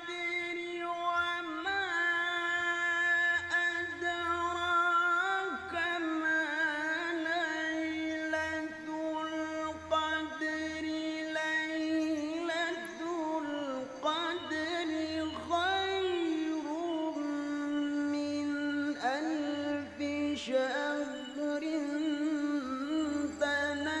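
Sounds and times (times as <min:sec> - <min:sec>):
person singing slow melody: 0:00.0 - 0:24.0.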